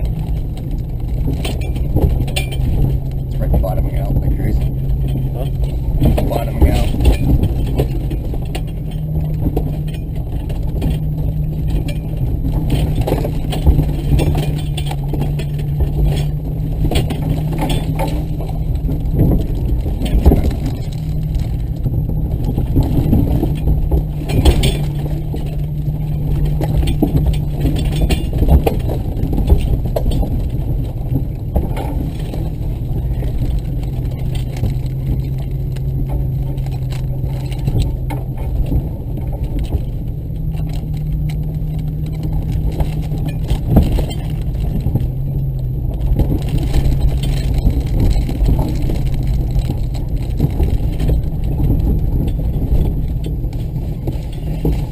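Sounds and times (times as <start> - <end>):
suspension knocks and rattles: 0.0 - 54.9
vehicle engine running: 0.0 - 54.9.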